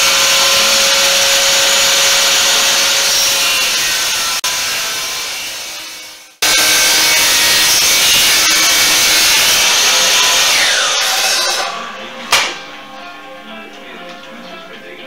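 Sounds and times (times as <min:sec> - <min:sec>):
miter saw sawing wood: 0:00.0 - 0:12.6.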